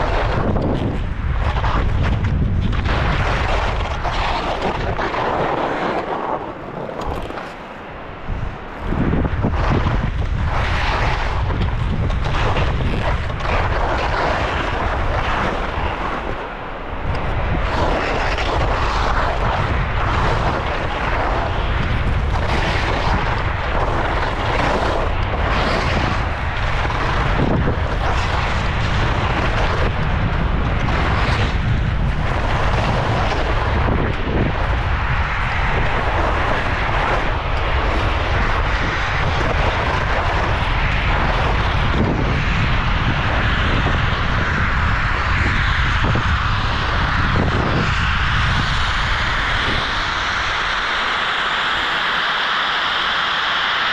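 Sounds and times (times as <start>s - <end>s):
skis scraping icy snow: 0.0s - 53.9s
wind rushing over microphone: 0.0s - 53.9s.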